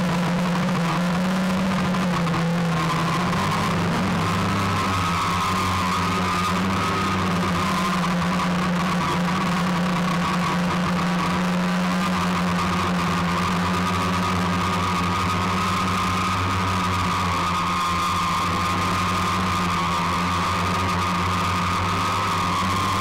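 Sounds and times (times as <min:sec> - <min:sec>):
drone propellers humming and whining: 0:00.0 - 0:23.0.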